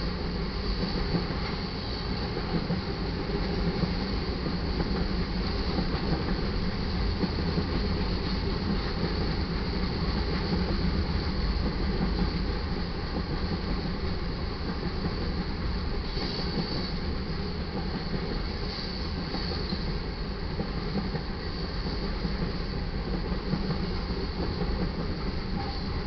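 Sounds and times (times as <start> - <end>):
steel wheels rumbling on rail: 0.0 - 26.0.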